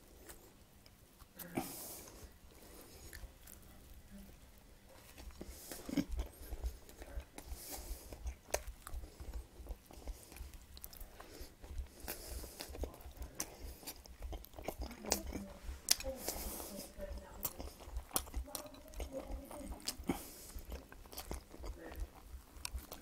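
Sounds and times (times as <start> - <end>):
person chewing bread: 0.0 - 23.0.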